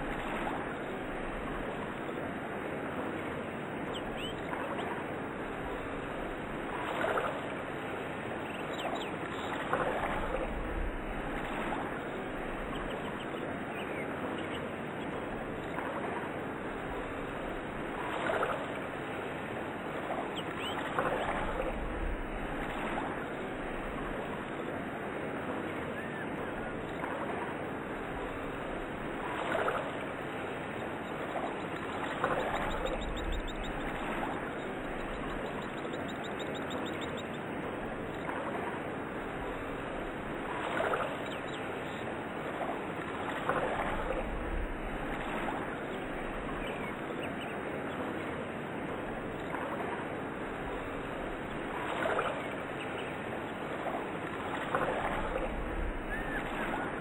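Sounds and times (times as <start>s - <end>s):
faint bird chirps: 0.0s - 2.3s, 2.9s - 19.3s, 19.9s - 57.0s
rushing water: 0.0s - 57.0s
water splashes: 0.0s - 57.0s.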